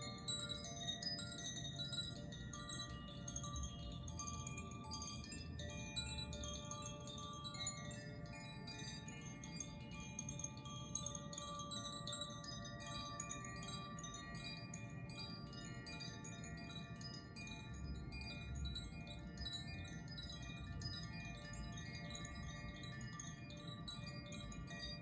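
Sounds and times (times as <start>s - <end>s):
wind chimes tinkling: 0.0s - 25.0s.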